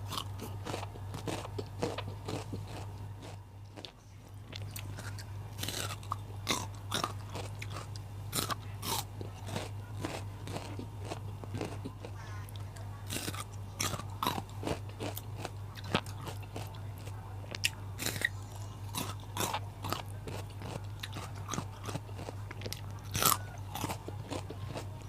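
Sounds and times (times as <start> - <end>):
person crunching raw vegetables: 0.0 - 25.0
steady low hum: 0.0 - 25.0.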